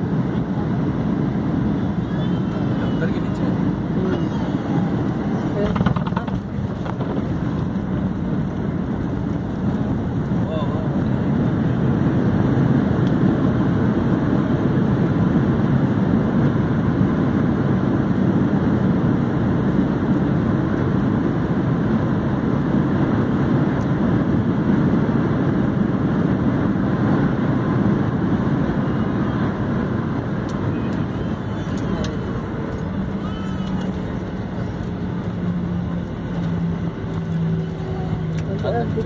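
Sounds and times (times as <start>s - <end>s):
jet engine and airflow rush: 0.0s - 39.0s.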